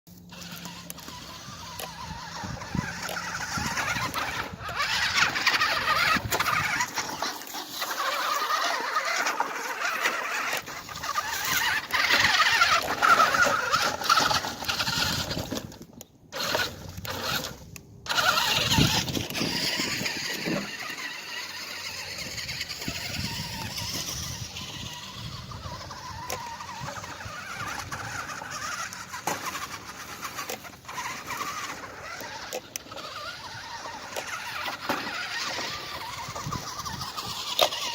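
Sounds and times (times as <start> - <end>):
toy truck motor whirring: 0.1 - 37.9.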